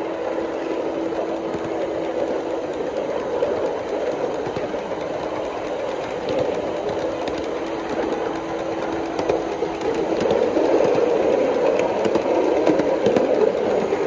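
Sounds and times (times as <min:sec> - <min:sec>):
steam locomotive chuffing: 0:00.0 - 0:14.0
wheels rattling on rails: 0:00.0 - 0:14.0.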